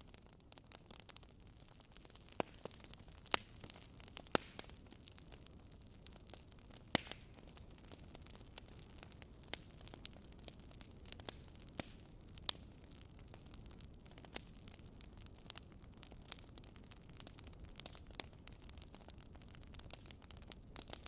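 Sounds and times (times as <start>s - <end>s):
faint steady hiss: 0.0s - 21.0s
wood fire crackling: 0.0s - 21.0s.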